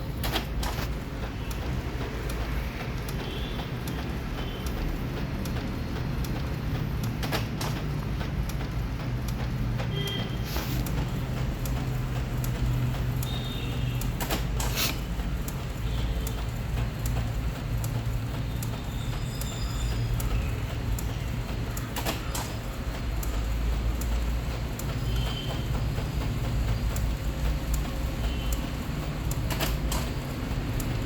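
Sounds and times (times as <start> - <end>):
printer carriage humming: 0.0 - 31.0
printer clicks: 0.0 - 31.0.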